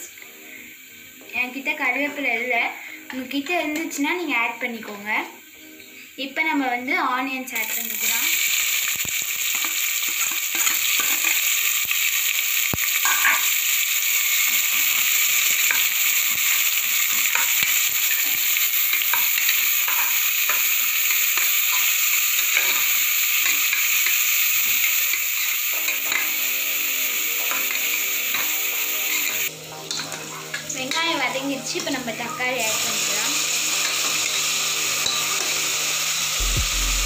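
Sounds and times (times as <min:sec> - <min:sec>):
onions sizzling in hot oil: 0:00.0 - 0:37.0.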